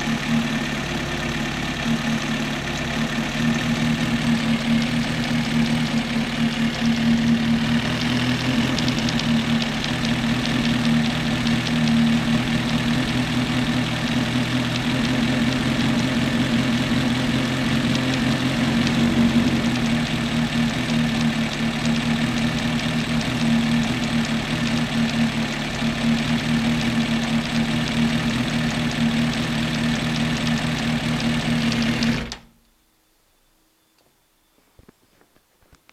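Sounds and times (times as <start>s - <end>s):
motorcycle engine idling: 0.0s - 32.3s
fast fine ticking: 3.0s - 32.4s.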